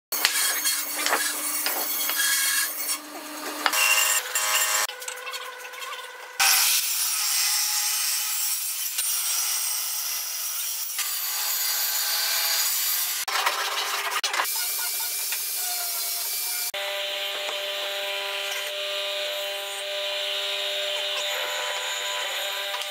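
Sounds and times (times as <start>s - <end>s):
table saw cutting wood: 0.1s - 22.9s.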